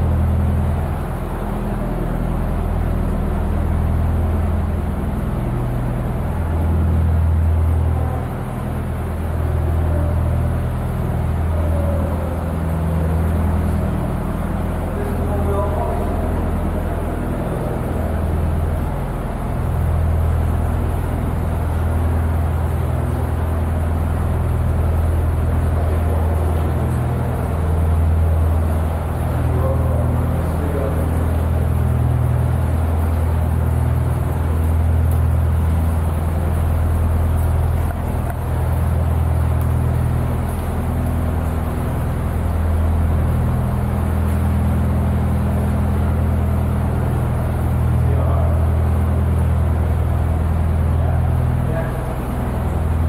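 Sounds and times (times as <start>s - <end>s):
boat engine drone: 0.0s - 53.0s.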